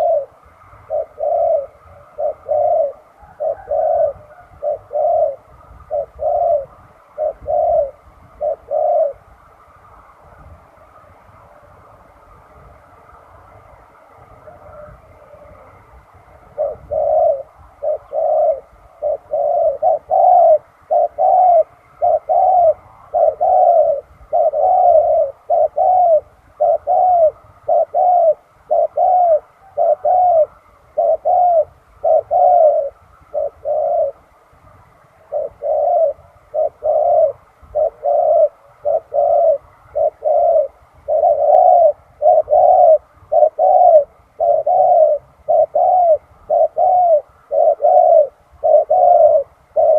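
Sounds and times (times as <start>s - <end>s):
dove cooing: 0.0s - 12.2s, 12.8s - 49.9s.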